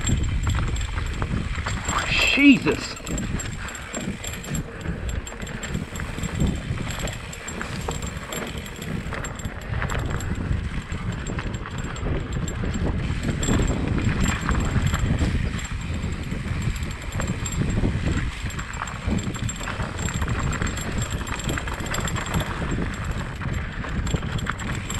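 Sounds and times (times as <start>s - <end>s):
bike tyres clattering over rocks: 0.0s - 24.9s
wind rush on microphone: 0.0s - 24.9s.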